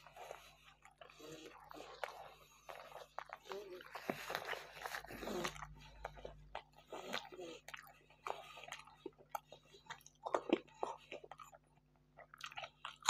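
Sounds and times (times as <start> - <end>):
man chewing and biting food: 0.0 - 13.0.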